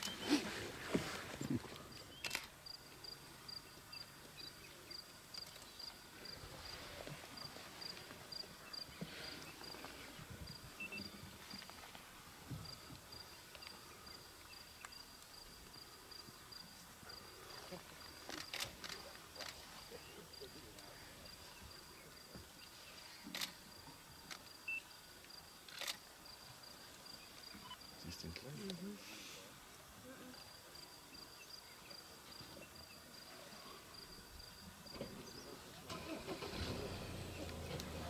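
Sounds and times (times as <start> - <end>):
insect chirping: 1.4 - 11.9, 12.6 - 28.2, 29.7 - 37.7.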